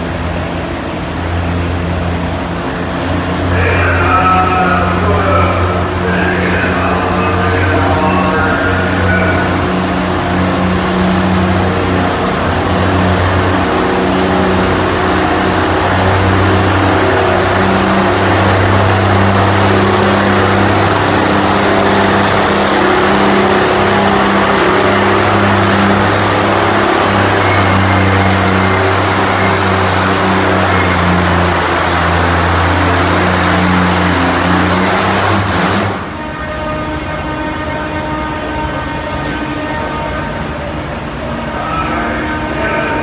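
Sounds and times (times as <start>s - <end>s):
tractor engine running under load: 0.0s - 43.0s.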